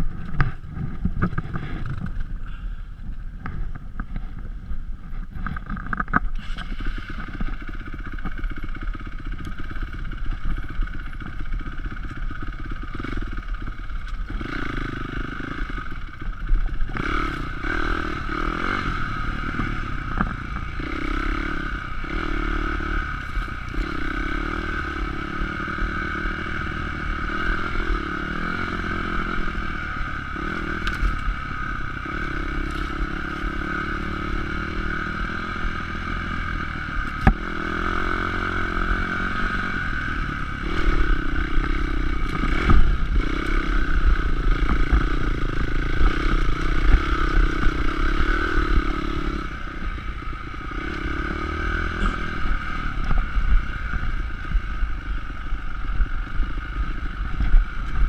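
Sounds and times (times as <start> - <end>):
dirt bike engine: 0.0 - 58.0.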